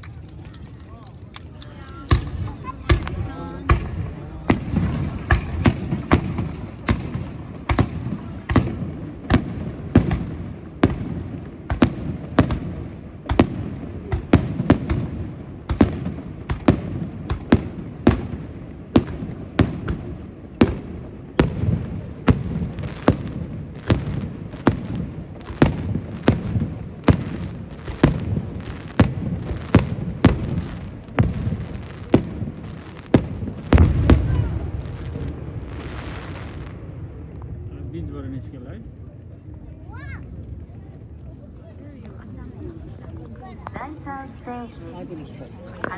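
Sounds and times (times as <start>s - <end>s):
fireworks bursting: 0.0s - 38.1s.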